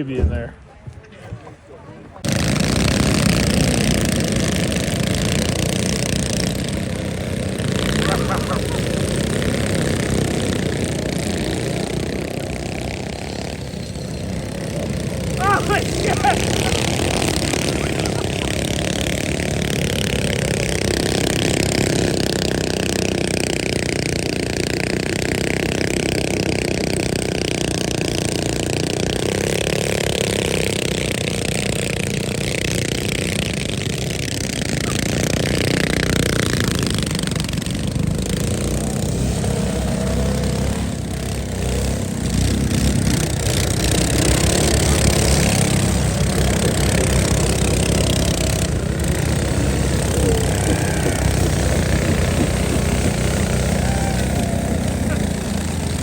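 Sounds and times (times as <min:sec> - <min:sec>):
minibike engines revving: 0:00.0 - 0:56.0.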